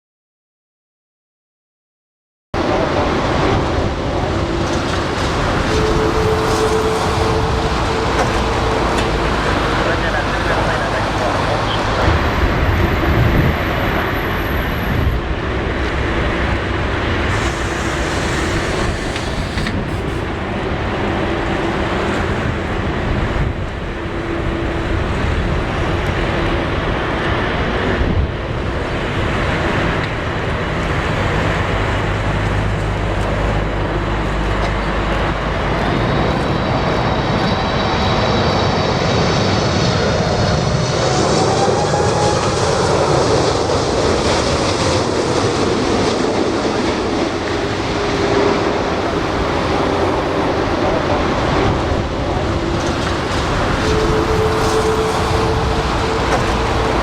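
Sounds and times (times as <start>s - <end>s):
jet engine rumble: 2.6s - 57.0s.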